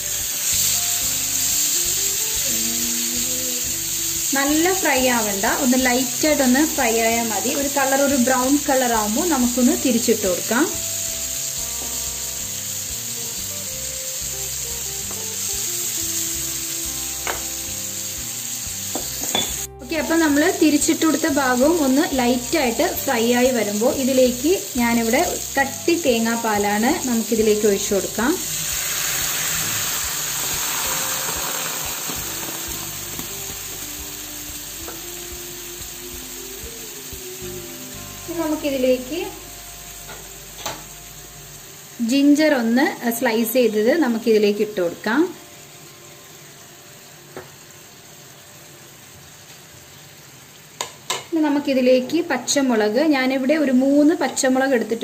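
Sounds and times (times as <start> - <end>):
fish sizzling in pan: 0.0 - 55.0.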